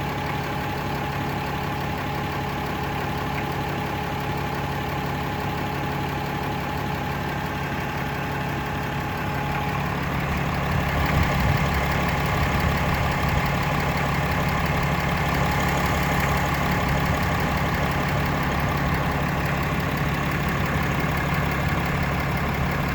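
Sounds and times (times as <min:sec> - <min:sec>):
diesel engine idling: 0:00.0 - 0:22.9
engine knocking rattle: 0:00.0 - 0:22.9.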